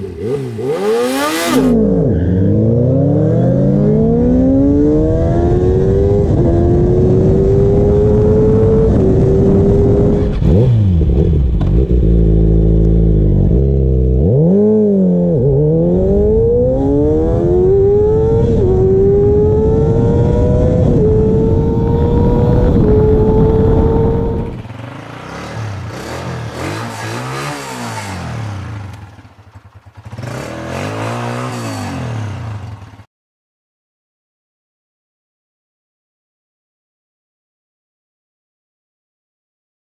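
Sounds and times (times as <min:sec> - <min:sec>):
motorcycle engine accelerating: 0:00.0 - 0:33.1
motorcycle engine revving: 0:00.0 - 0:33.1.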